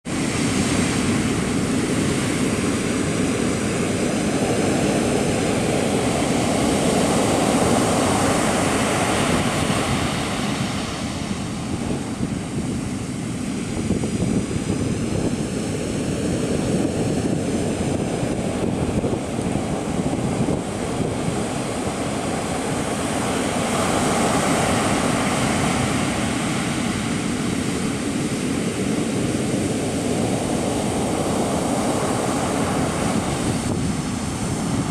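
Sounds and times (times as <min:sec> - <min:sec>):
ocean surf breaking on shore: 0:00.0 - 0:34.9
wind rumble on microphone: 0:00.1 - 0:34.9.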